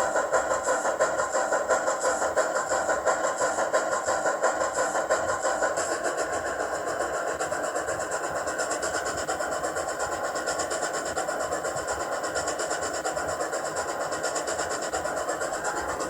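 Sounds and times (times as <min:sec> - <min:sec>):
steam chuff from small speaker: 0:00.0 - 0:16.0.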